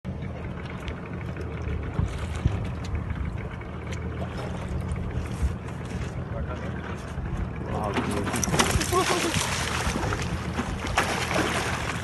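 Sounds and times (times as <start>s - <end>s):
steady low rumble: 0.1s - 12.0s
water noise: 0.1s - 12.0s.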